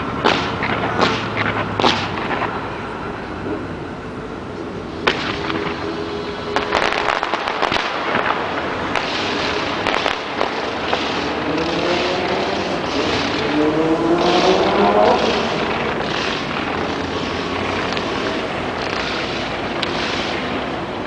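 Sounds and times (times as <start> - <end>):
fireworks crackling and popping: 0.0 - 3.6, 4.8 - 21.0
rising pitched tone: 3.1 - 20.4.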